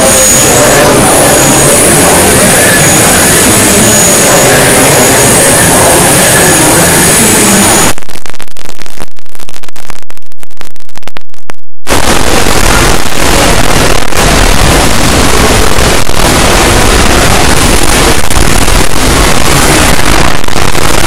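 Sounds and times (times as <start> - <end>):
loud distorted noise: 0.0 - 21.0.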